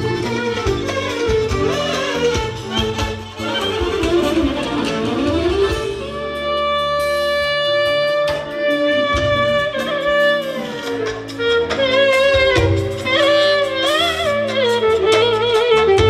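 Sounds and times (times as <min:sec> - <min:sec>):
festive music with low beat: 0:00.0 - 0:16.0.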